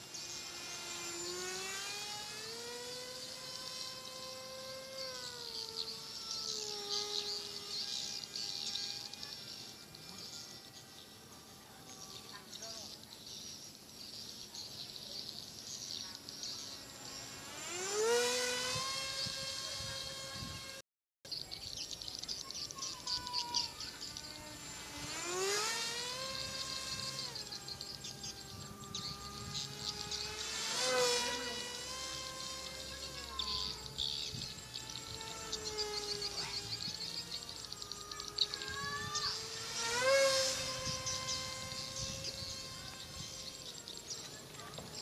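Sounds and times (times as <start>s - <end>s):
insects chirping: 0.0s - 18.5s, 21.3s - 45.0s
model jet electric motor whining: 0.0s - 45.0s.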